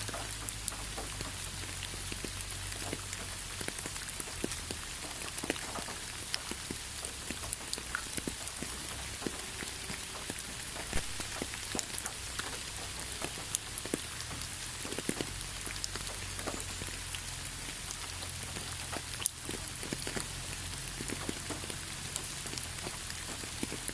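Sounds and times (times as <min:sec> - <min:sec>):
raindrops tapping sharply: 0:00.0 - 0:23.9
steady rain: 0:00.0 - 0:23.9.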